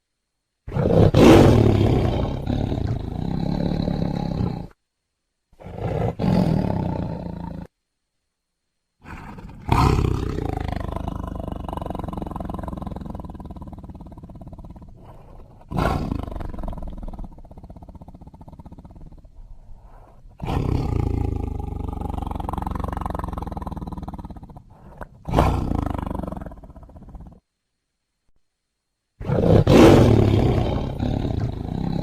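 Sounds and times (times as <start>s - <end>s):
tiger roaring: 0.7s - 4.8s, 5.6s - 7.7s, 9.0s - 27.4s, 29.2s - 32.0s.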